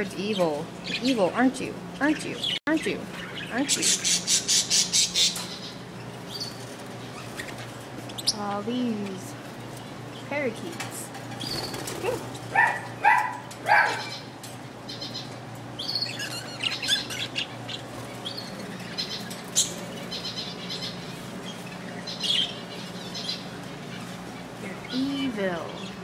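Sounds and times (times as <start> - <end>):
parakeets chirping: 0.1 - 9.1, 11.3 - 26.0.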